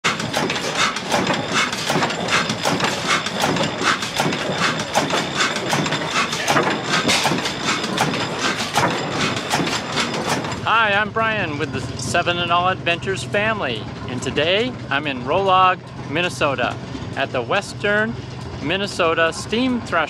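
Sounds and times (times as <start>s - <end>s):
stationary engine knocking: 0.0s - 20.0s.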